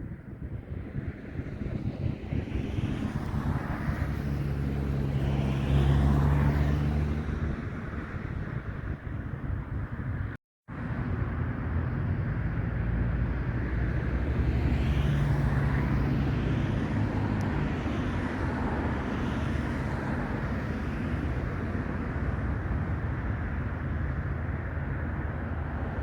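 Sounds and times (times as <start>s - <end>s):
propeller airplane engine droning: 0.0s - 26.0s.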